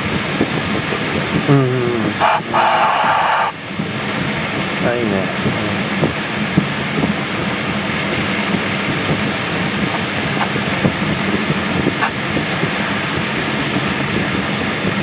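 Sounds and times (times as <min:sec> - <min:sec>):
airflow rushing around cockpit canopy: 0:00.0 - 0:15.0.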